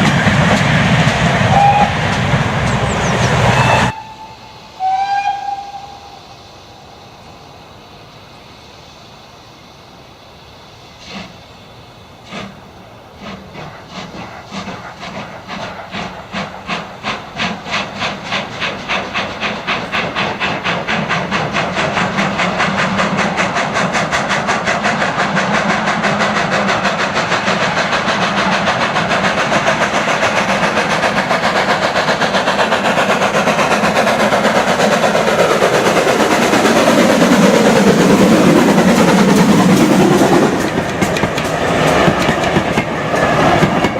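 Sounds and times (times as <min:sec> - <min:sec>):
steam locomotive chuffing: 0:00.0 - 0:43.9.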